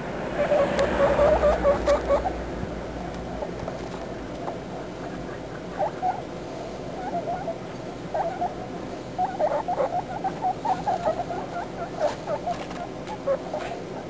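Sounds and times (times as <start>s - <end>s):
guinea pigs squeaking: 0.3s - 14.0s.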